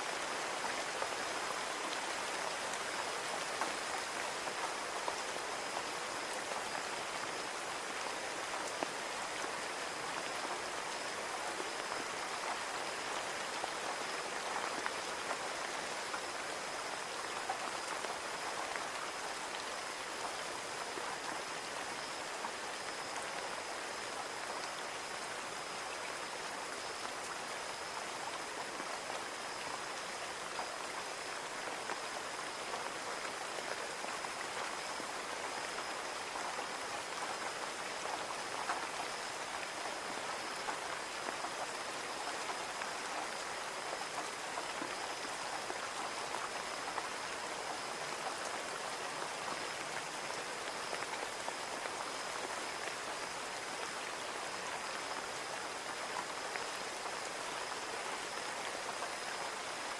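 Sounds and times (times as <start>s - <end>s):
rain on a window pane: 0.0s - 59.9s.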